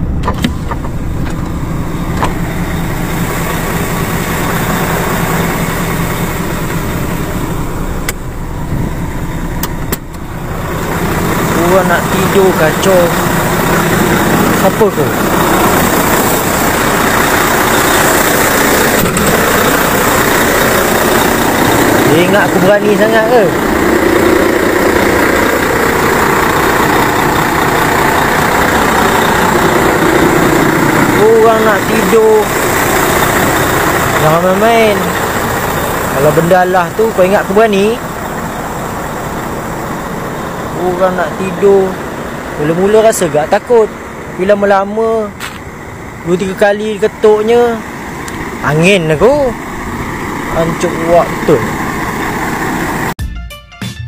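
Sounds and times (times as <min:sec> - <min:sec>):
lorry engine idling: 0:00.0 - 0:53.2.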